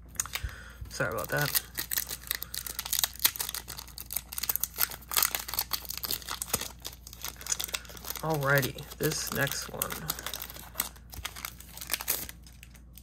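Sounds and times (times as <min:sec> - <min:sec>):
foil wrapper crinkling: 0:00.2 - 0:13.0.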